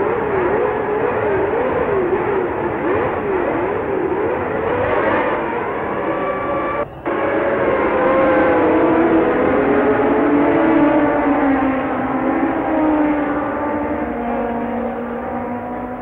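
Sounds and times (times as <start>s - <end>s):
race car engines running: 0.0s - 16.0s.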